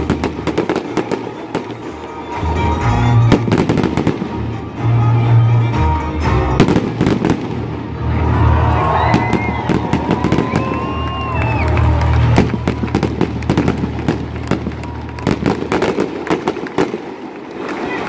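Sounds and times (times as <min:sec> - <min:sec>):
fireworks bangs and crackling: 0:00.0 - 0:04.8, 0:06.5 - 0:18.0.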